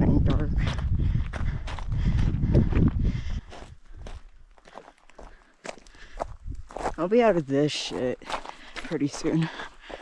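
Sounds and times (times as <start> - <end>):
footsteps crunching on rock rubble: 0.2 - 10.0.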